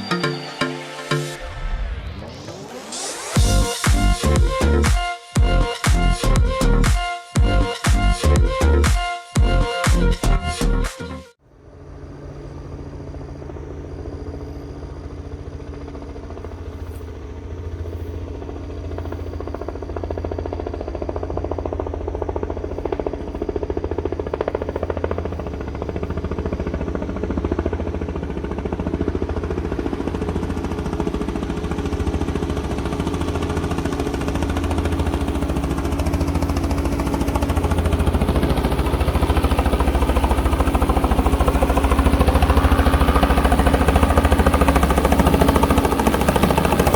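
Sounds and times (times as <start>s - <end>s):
helicopter engine and rotor: 0.0s - 7.8s, 11.5s - 46.9s.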